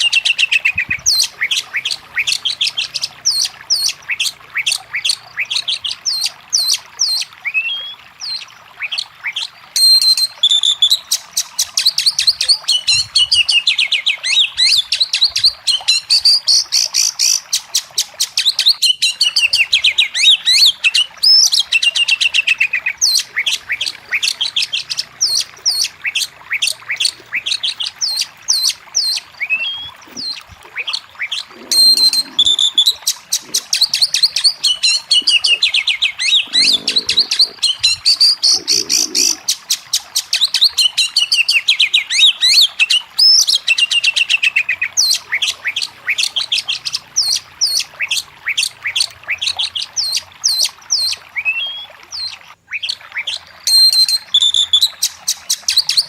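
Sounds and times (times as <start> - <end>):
bird singing whistles and trills: 0.0 - 56.0.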